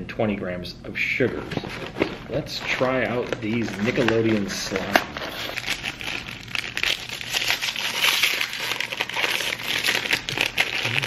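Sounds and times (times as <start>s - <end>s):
paper wrapper crinkling: 1.3s - 11.0s.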